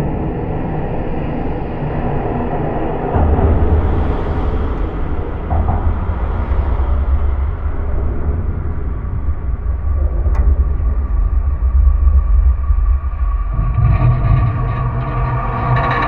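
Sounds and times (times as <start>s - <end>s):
deep rumble of bridge structure: 0.0s - 16.0s.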